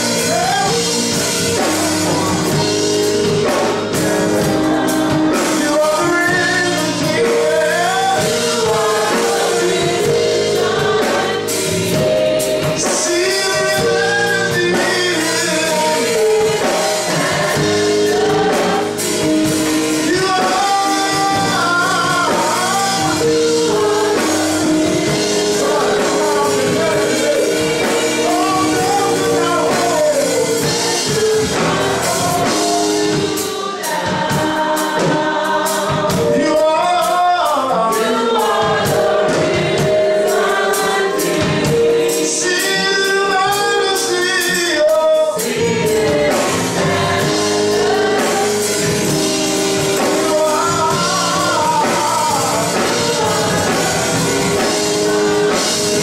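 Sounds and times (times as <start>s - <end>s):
gospel choir singing: 0.0s - 56.0s
live instrumental accompaniment: 0.0s - 56.0s.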